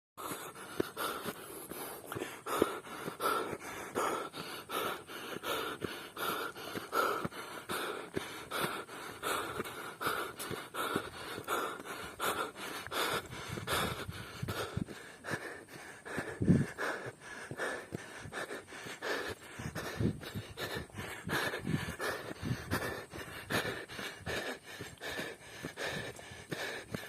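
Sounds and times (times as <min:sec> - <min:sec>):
person panting while running: 0:00.2 - 0:27.0.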